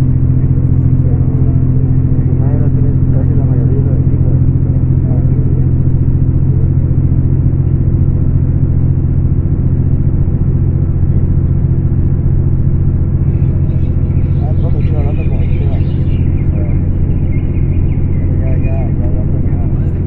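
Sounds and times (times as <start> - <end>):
diesel coach engine running: 0.0 - 20.0.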